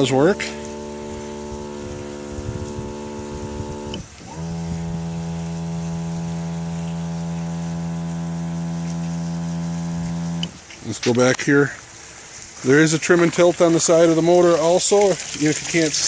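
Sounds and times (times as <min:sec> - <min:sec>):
electric pump whining: 0:00.0 - 0:16.0.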